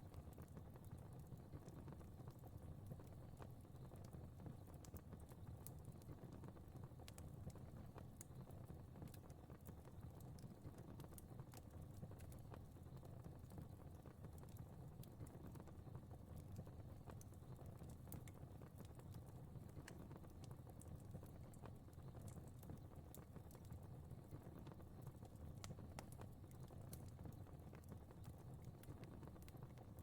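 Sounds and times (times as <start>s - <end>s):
fire crackling in a fireplace: 0.0s - 30.0s.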